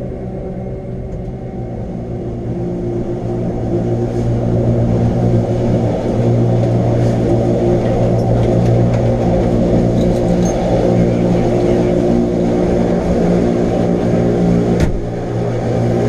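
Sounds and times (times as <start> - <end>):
electric train motor hum: 0.0 - 16.0.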